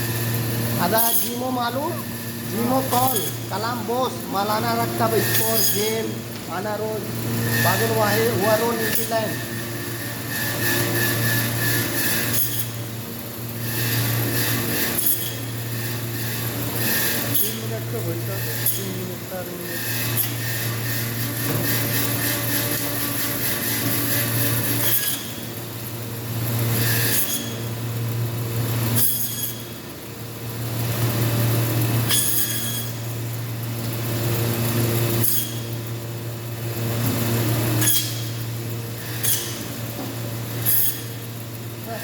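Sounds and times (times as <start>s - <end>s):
bandsaw cutting meat and bone: 0.0s - 42.0s.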